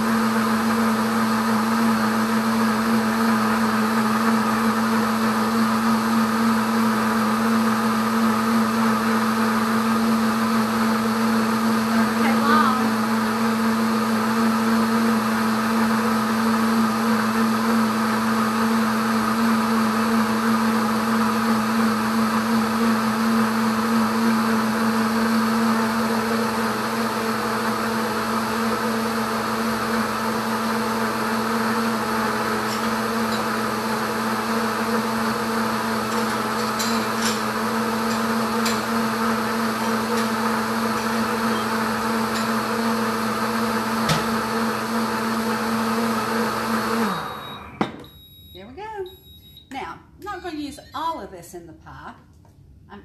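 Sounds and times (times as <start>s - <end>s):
blender motor whine: 0.0s - 48.3s.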